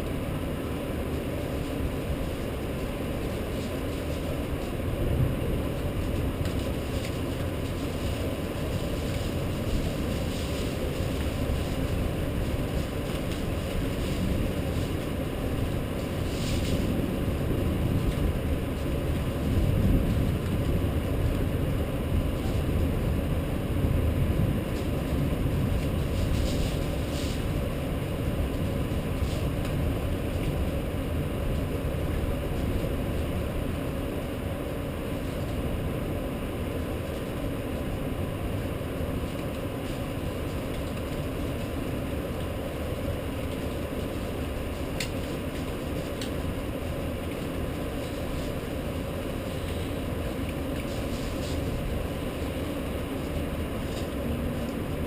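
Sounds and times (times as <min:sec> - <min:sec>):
wind and rain rumble: 0:00.0 - 0:55.0.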